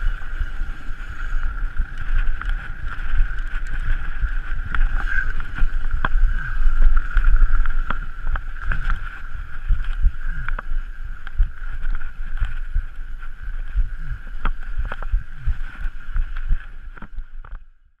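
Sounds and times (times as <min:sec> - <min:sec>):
bike knocking and rattling: 0:00.0 - 0:17.6
wind rumbling on microphone: 0:00.0 - 0:18.0.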